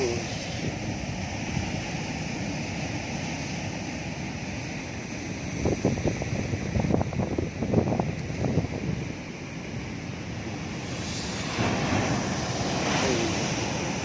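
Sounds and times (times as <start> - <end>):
sea surf: 0.0 - 14.0
wind buffeting microphone: 0.0 - 14.0.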